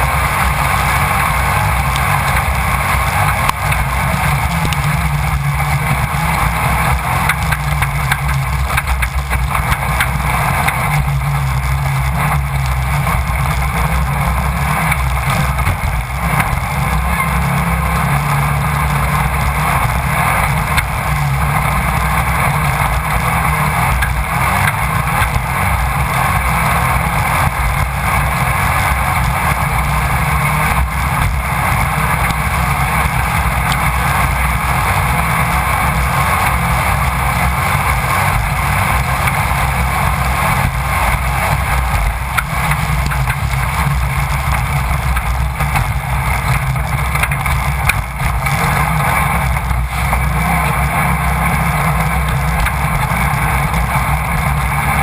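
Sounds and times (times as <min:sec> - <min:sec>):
engine running at high revs: 0:00.0 - 0:55.0
wind and road noise: 0:00.0 - 0:55.0.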